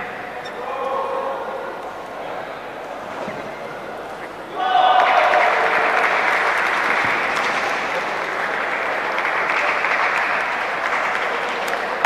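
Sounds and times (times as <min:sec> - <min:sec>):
crowd noise in sports hall: 0:00.0 - 0:12.0.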